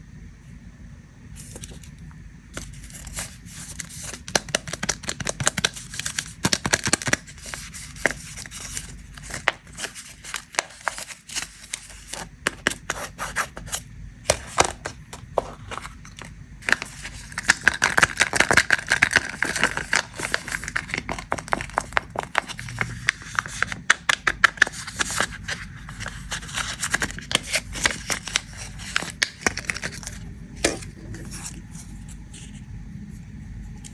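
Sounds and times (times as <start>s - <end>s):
plastic wrappers crinkling: 2.6s - 32.4s.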